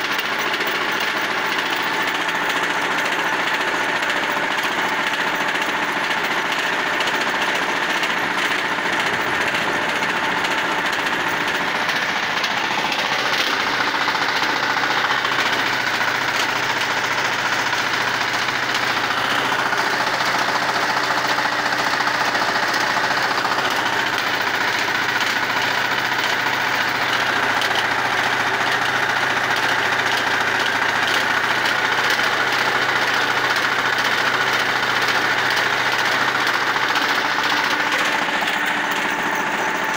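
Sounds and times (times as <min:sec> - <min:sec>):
diesel tractor engine clattering: 0:00.0 - 0:39.9.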